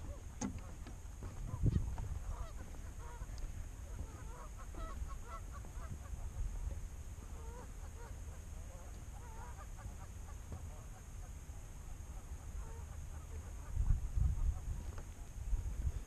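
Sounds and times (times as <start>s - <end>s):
wind rumble on microphone: 0.0s - 11.2s, 11.8s - 16.0s
waterbirds calling: 0.0s - 16.0s.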